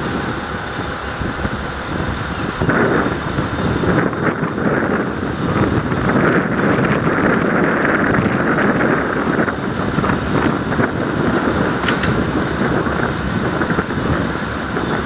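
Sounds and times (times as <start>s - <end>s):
diesel railcar engine idling: 0.0s - 15.0s.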